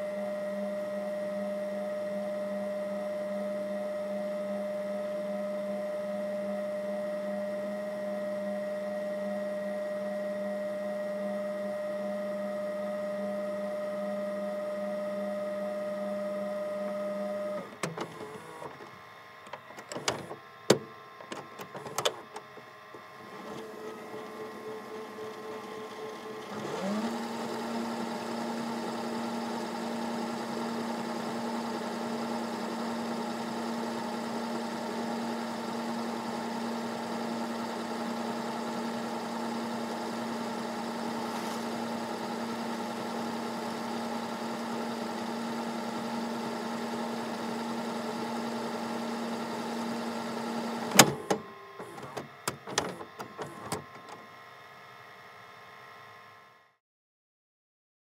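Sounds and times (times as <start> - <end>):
tape rewinding in a vcr: 0.0 - 54.3
vcr stopping with a clunk: 5.2 - 54.3.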